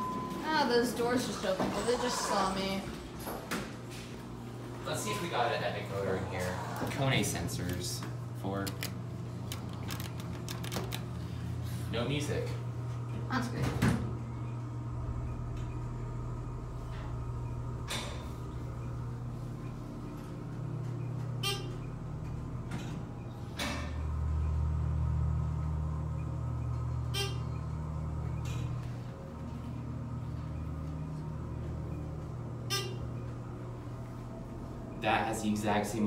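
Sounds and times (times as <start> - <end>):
elevator pump motor hum: 0.0 - 36.0.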